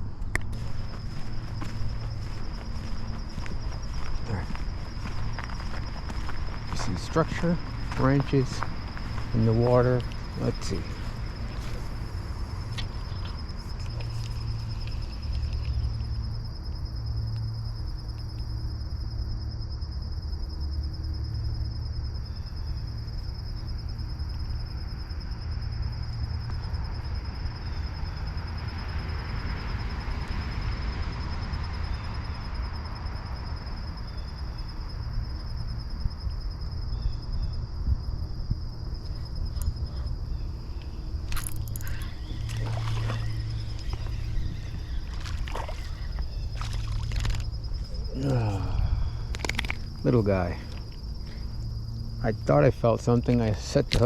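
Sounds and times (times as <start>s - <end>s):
continuous low rumble: 0.0s - 54.0s
insects trilling: 0.0s - 54.0s.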